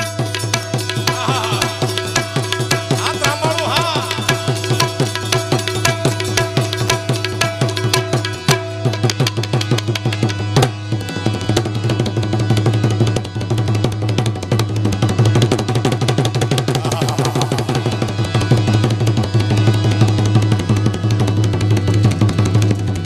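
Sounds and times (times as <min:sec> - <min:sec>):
harmonium drone: 0:00.0 - 0:23.0
tabla fast rhythm: 0:00.0 - 0:23.0.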